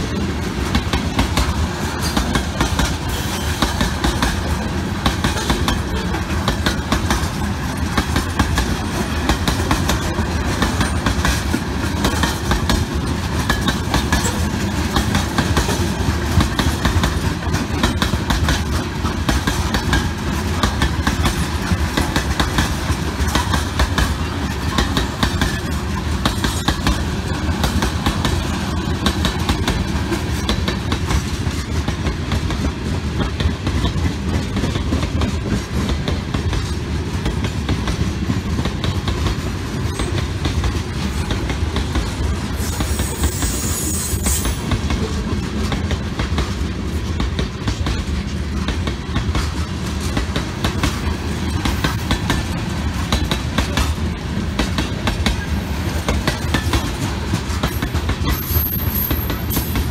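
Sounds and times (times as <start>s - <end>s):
freight train rumble: 0.0s - 59.9s
train wheels clattering over rail joints: 0.0s - 59.9s.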